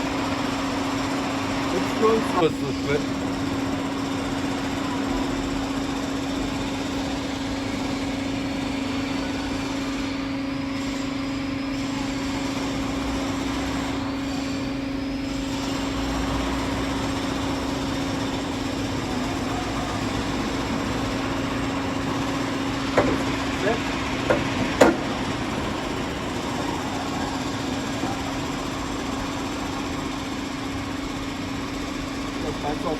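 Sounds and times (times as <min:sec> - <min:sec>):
machinery noise: 0:00.0 - 0:32.9
steady machine hum: 0:00.0 - 0:32.9.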